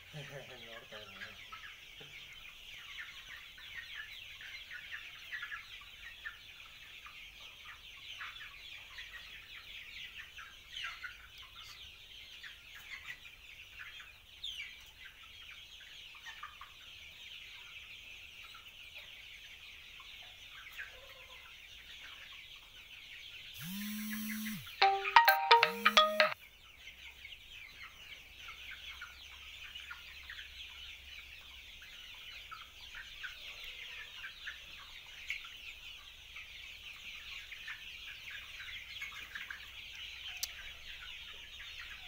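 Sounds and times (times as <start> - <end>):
chickens cheeping and clucking: 0.0 - 42.0.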